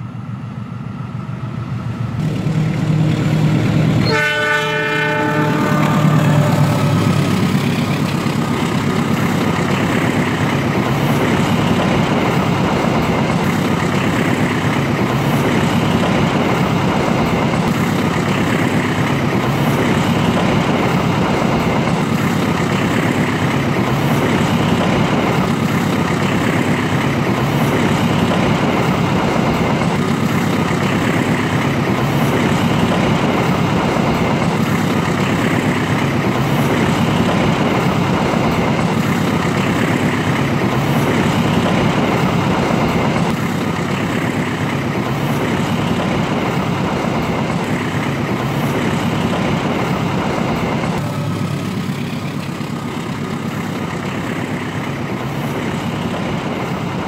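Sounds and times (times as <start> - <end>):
train rumbling along track: 0.0 - 57.0.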